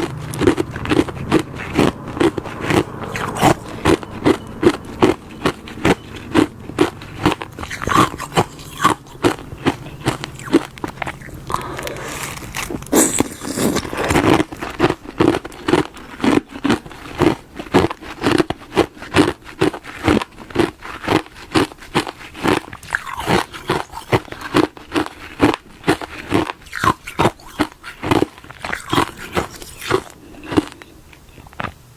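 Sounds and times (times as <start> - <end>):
ice being chewed: 0.0 - 31.9.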